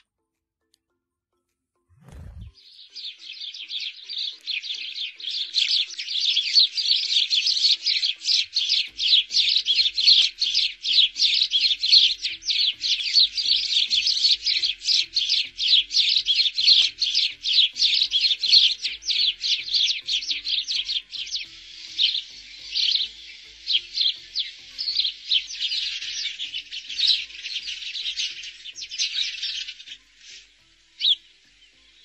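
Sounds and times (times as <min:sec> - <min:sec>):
sparrows chirping: 0:02.0 - 0:32.0.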